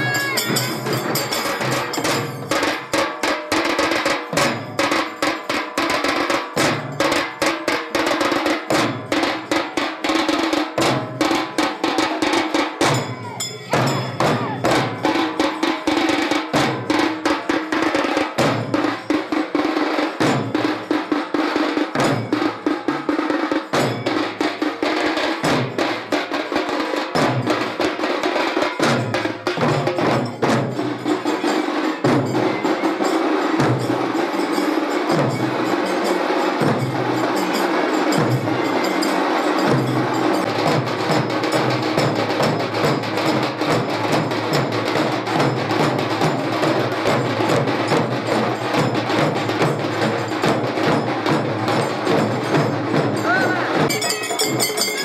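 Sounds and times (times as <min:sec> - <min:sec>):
barrel drums playing fast rhythm: 0:00.0 - 0:55.0.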